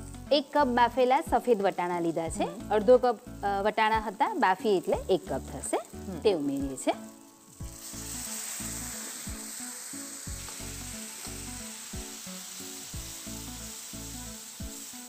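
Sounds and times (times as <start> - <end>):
peas sizzling in oil: 0.0 - 15.0.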